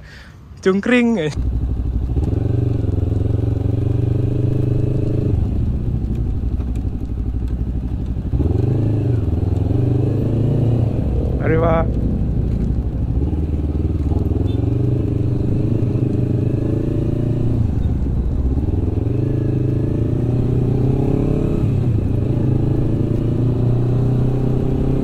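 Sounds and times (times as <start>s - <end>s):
motorcycle engine running: 1.4s - 25.0s.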